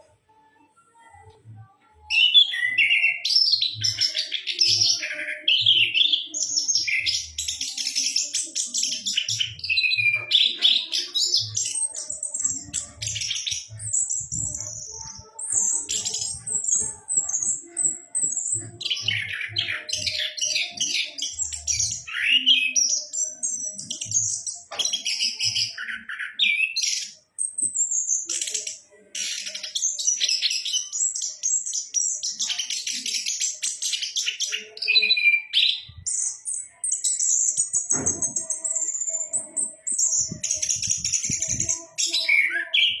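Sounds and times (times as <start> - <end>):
thrush singing trills and whistles: 2.1 - 43.0.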